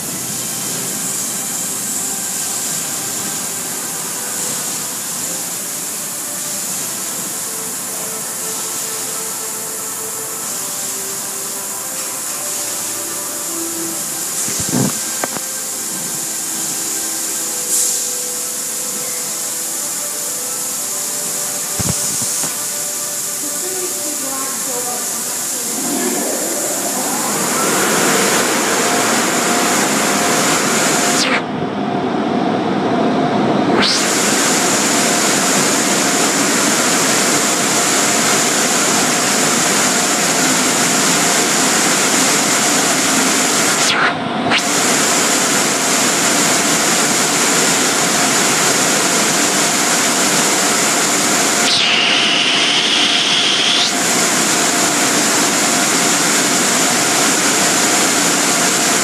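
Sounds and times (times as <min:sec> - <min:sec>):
dryer blowers rushing air: 0:00.0 - 0:59.0
faint high whine: 0:00.0 - 0:59.0.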